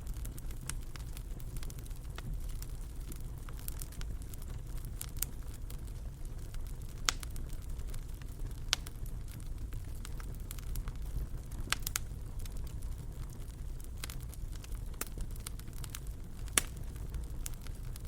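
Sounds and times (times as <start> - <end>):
sharp pops of fire: 0.0 - 18.0
wood fire crackling: 0.0 - 18.0.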